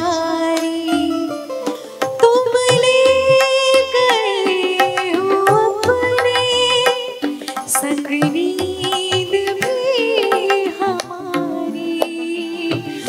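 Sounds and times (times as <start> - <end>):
hand drum strokes: 0.6 - 13.0.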